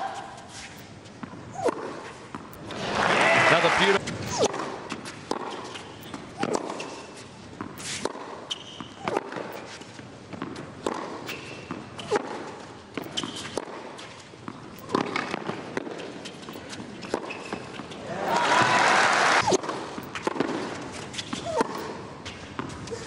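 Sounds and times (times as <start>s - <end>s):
racket striking tennis ball: 0.0s - 2.7s, 4.0s - 18.7s, 19.4s - 23.0s
tennis ball bouncing: 0.2s - 2.8s, 4.0s - 18.7s, 19.4s - 23.0s.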